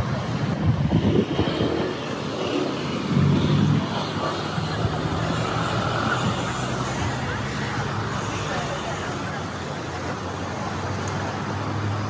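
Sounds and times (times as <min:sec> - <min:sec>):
traffic rumbling past: 0:00.0 - 0:12.0.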